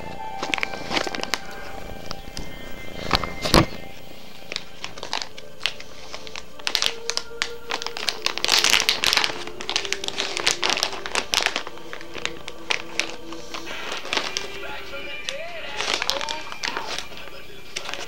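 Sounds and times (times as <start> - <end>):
background music: 0.0 - 18.0
crinkling and rustling: 0.0 - 18.0.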